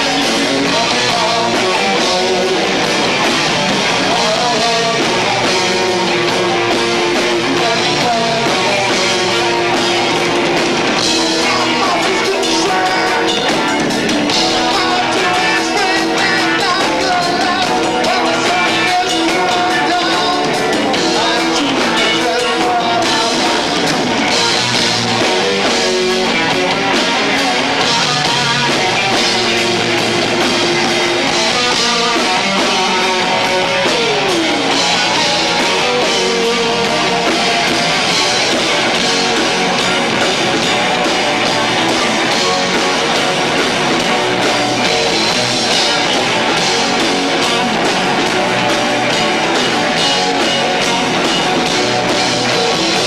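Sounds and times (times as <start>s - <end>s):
drums: 0.0s - 53.0s
live rock band playing: 0.0s - 53.0s.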